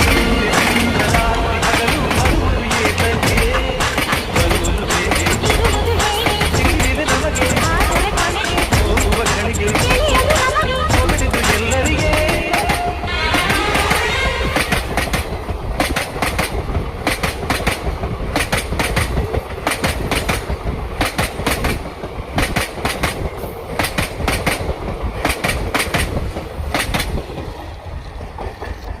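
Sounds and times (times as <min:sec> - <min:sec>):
train rumbling: 0:00.0 - 0:29.0
train wheels clacking over rail joints: 0:00.0 - 0:29.0.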